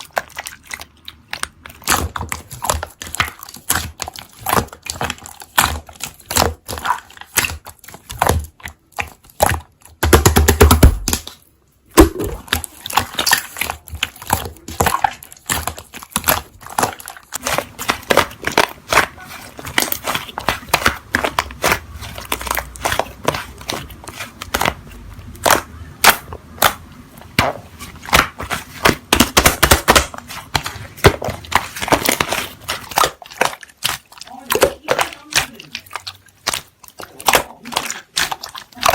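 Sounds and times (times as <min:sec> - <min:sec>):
slime squishing and popping: 0:00.0 - 0:38.9.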